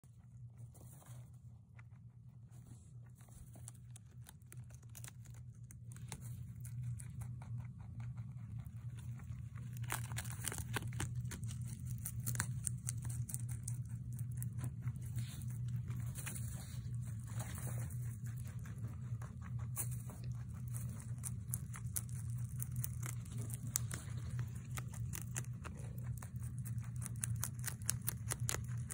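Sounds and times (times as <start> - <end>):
rabbit chewing lettuce: 0.0 - 28.9
steady low hum: 0.0 - 28.9.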